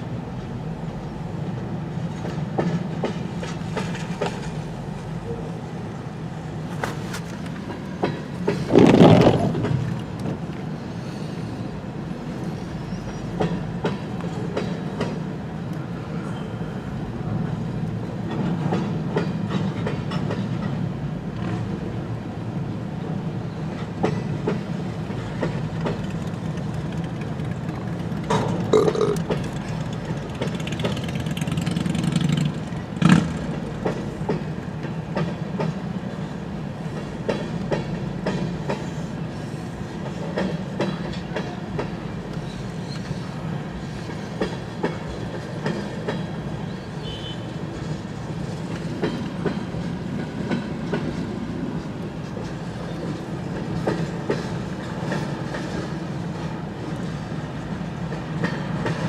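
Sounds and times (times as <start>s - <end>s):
freight train low rumble: 0.0s - 59.0s
train clanks: 0.0s - 59.0s
wheels clacking over rail joints: 1.4s - 5.5s, 6.4s - 10.7s, 12.3s - 16.6s, 17.3s - 22.2s, 23.4s - 59.0s.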